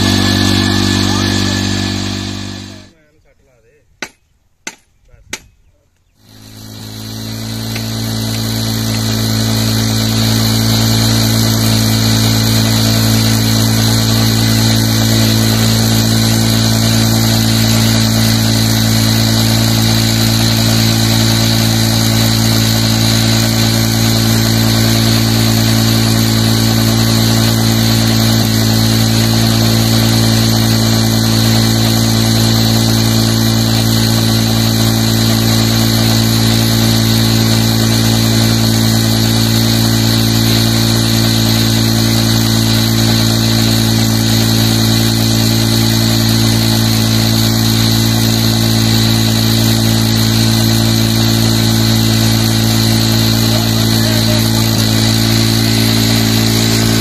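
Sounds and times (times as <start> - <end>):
motorcycle engine running steadily: 0.0 - 3.0, 6.0 - 57.0
water gushing from pipe: 6.3 - 57.0.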